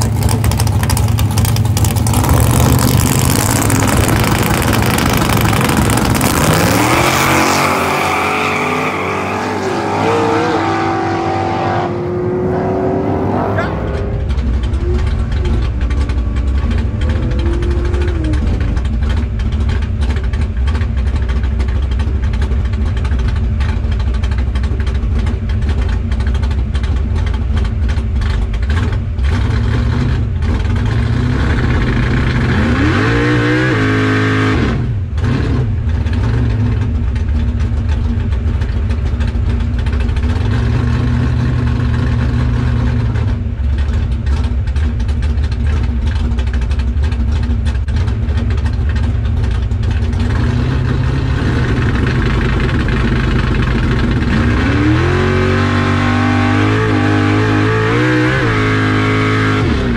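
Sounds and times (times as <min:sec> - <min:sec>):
truck engine idling and revving: 0:00.0 - 0:59.9.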